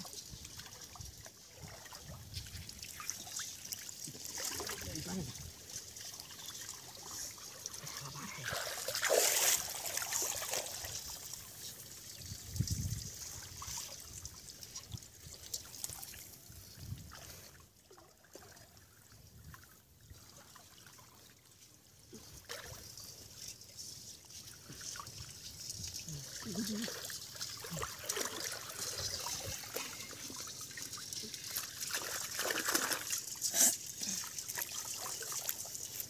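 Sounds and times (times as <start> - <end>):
water trickling and sloshing: 0.0 - 36.0.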